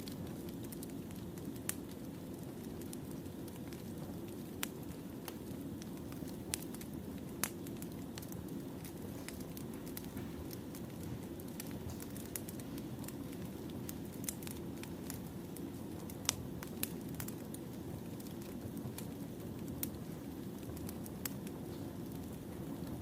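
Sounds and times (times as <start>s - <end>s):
firewood crackling and popping: 0.0s - 23.0s
low rumble of flames: 0.0s - 23.0s.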